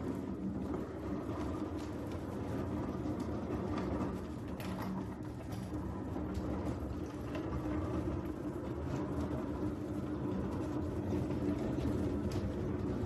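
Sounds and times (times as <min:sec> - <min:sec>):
cart wheels rolling on wood floor: 0:00.0 - 0:13.0.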